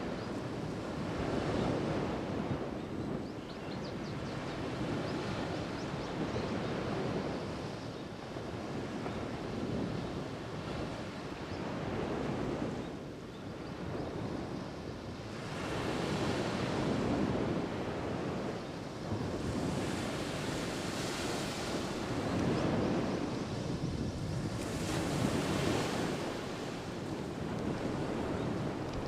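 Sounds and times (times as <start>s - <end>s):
wind on microphone: 0.0s - 29.0s
ocean waves breaking on shore: 4.2s - 29.0s.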